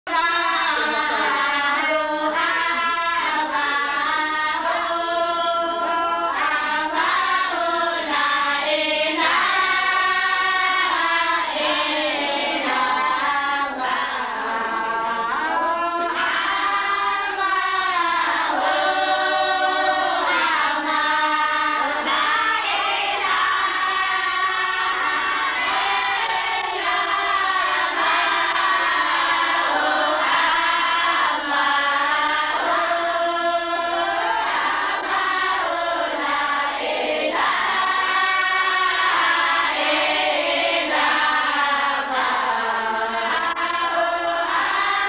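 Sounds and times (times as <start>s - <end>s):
girls singing a chant in unison: 0.1s - 45.0s.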